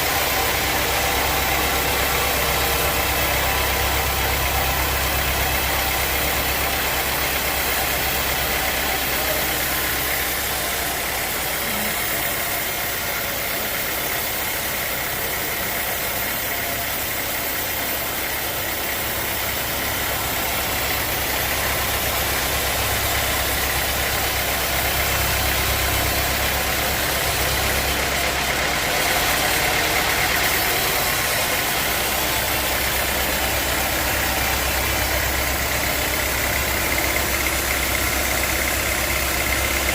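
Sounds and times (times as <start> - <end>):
high saw whine: 0.0 - 39.9.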